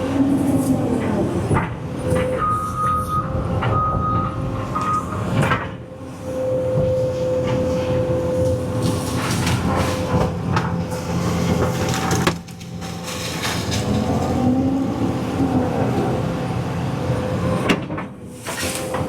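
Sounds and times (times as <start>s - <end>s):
excavator diesel engine under load: 0.0s - 19.0s.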